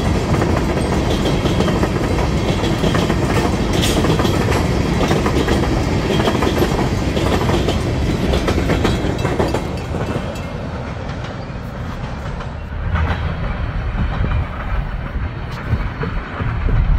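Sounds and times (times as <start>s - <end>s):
train rumbling: 0.0s - 16.9s
train wheels clattering: 0.0s - 16.9s.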